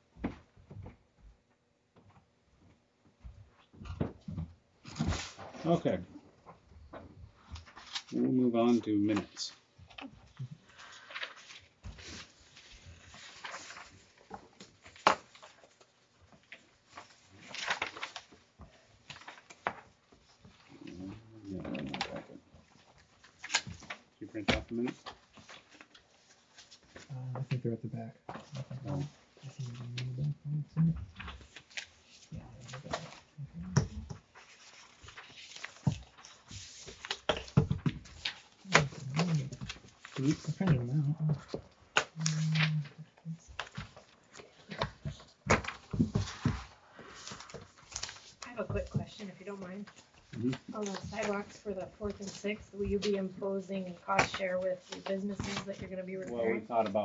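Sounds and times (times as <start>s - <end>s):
paper rustling and shuffling: 3.5s - 57.0s.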